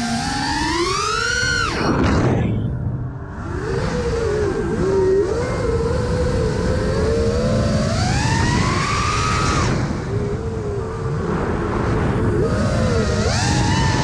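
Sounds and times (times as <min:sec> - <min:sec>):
quadcopter motors whining: 0:00.0 - 0:14.0
wind rushing across microphone: 0:00.0 - 0:14.0.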